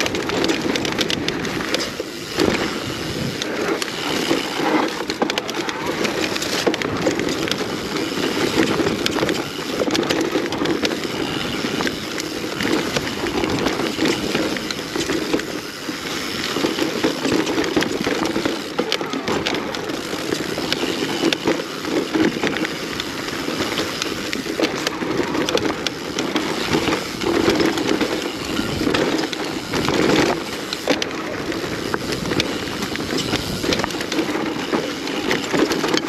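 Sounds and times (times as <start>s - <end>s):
bicycle tyres on dirt: 0.0s - 36.0s
chain and frame rattling: 0.0s - 36.0s
wheels knocking on roots: 0.0s - 36.0s.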